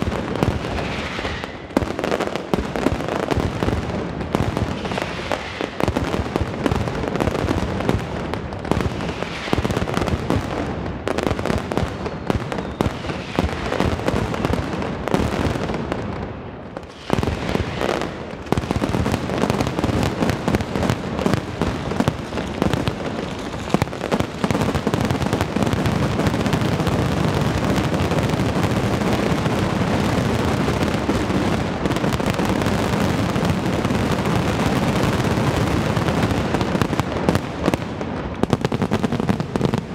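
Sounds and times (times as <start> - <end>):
firecrackers exploding: 0.0 - 39.9.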